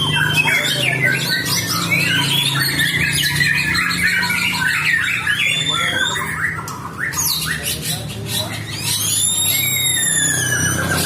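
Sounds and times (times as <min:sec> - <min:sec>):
bird singing whistles and chatter: 0:00.0 - 0:11.0.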